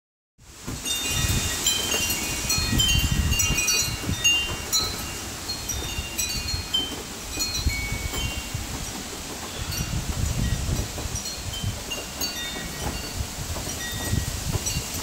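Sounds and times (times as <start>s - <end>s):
wind buffeting microphone: 0.4s - 15.0s
wind chimes ringing: 0.7s - 15.0s.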